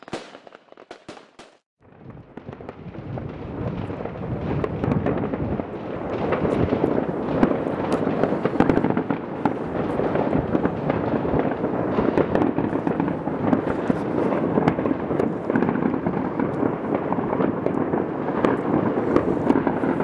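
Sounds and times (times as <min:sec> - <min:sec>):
fireworks and firecrackers crackling: 0:00.0 - 0:20.0.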